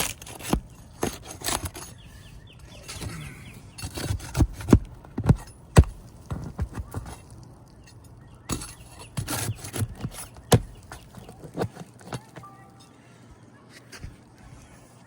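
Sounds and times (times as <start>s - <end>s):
hand tool scraping roof shingles: 0.0s - 12.5s.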